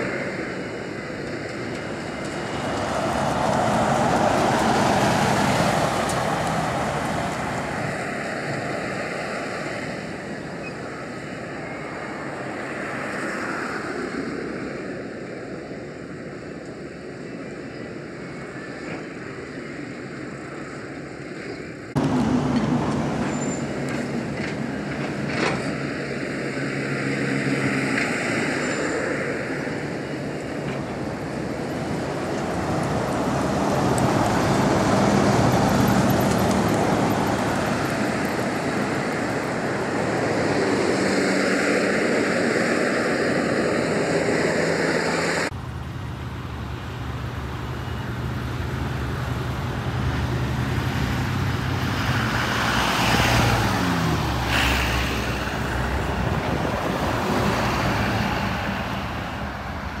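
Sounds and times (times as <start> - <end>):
bus engines running: 0.0 - 60.0
low bus engine hum: 0.0 - 60.0
road and tyre noise: 0.0 - 60.0.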